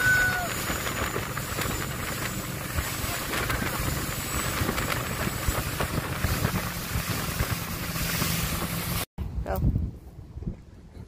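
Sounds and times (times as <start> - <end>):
churning wake water: 0.0 - 9.1
motorboat engine: 0.0 - 9.1
wind buffeting microphone: 0.0 - 11.0.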